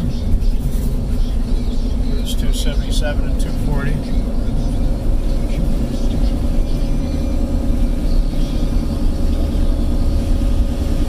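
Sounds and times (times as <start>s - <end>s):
car engine rumble: 0.0s - 11.0s
tyre noise on road: 0.0s - 11.0s.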